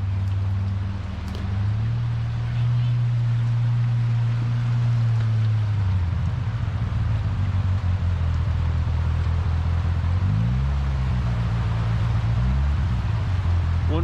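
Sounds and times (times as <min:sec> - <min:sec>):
utility vehicle engine running: 0:00.0 - 0:14.0.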